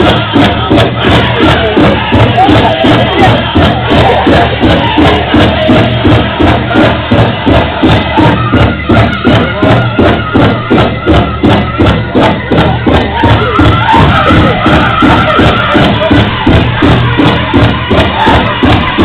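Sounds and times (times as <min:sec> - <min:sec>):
large drum steady beat: 0:00.0 - 0:19.0.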